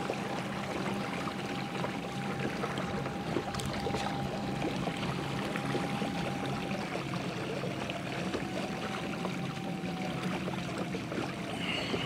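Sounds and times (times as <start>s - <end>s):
faint wavering whine: 0.0s - 12.0s
water lapping against kayak hull: 0.0s - 12.0s.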